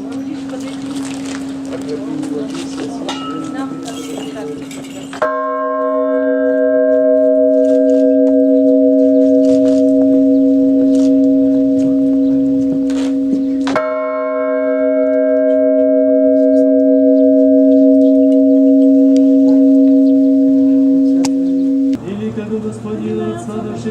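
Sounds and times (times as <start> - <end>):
church bell ringing: 0.0 - 22.1.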